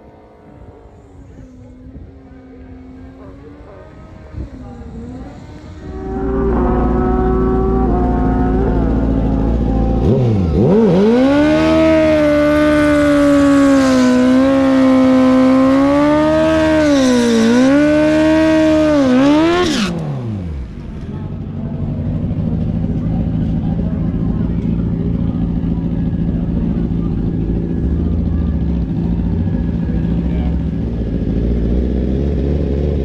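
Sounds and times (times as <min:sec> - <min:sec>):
motorcycle engine revving: 0:00.0 - 0:33.0
rear tire spinning: 0:00.2 - 0:33.0.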